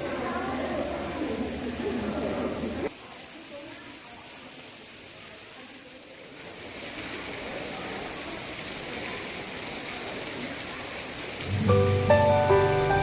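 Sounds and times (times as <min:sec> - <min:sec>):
rushing water hiss: 0:00.0 - 0:13.0.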